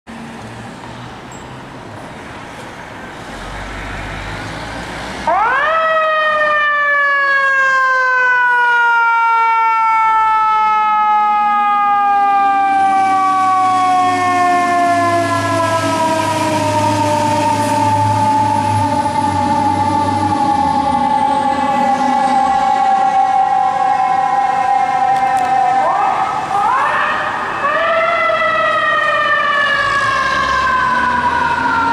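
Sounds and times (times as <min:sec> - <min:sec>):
truck engine rumbling: 0:00.1 - 0:07.4, 0:08.4 - 0:31.9
street traffic noise: 0:00.1 - 0:31.9
fire truck siren wailing: 0:03.4 - 0:31.9.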